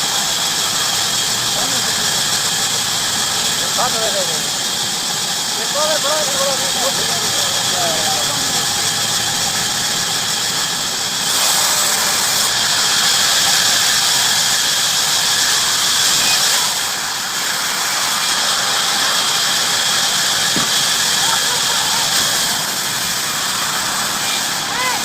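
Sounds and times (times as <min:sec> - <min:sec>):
band saw cutting wood: 0:00.0 - 0:25.0.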